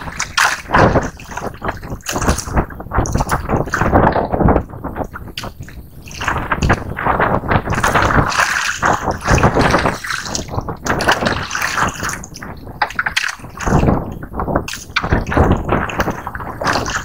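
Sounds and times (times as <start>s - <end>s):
sea water splashing: 0.0s - 17.0s.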